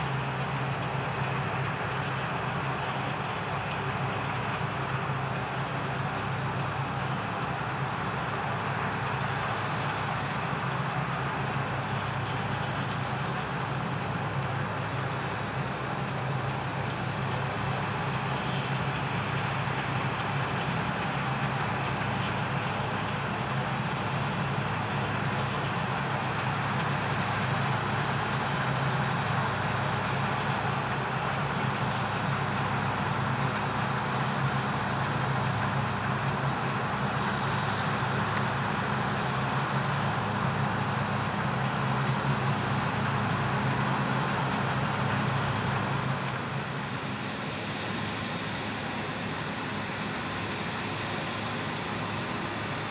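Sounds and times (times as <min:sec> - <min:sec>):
combine harvester droning: 0:00.0 - 0:52.9.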